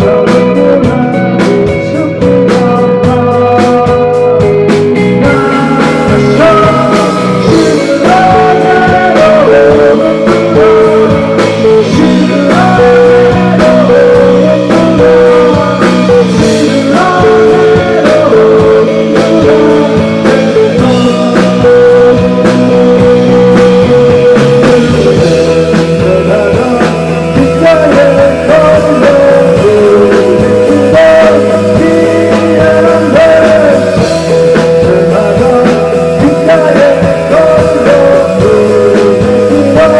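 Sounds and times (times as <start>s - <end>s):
electric guitar bending notes: 0.0s - 39.9s
live rock band playing: 0.0s - 39.9s.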